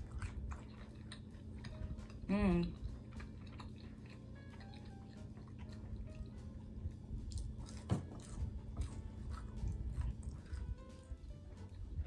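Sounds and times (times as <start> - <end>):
chewing and crunching onion ring: 0.0 - 12.0.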